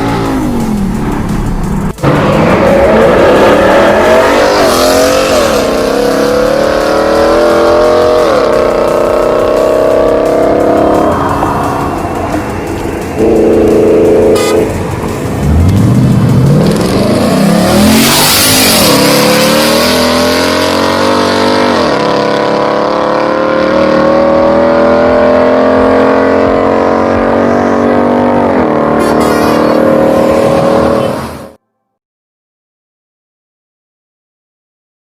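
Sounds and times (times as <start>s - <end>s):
car engine accelerating hard: 0.0s - 31.6s.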